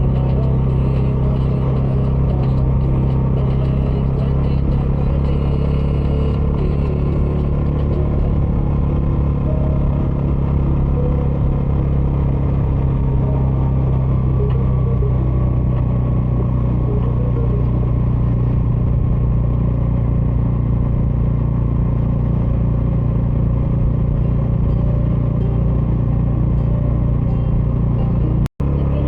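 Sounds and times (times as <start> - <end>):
motorcycle engine cruising: 0.0 - 29.0
road and wind noise: 0.0 - 29.0.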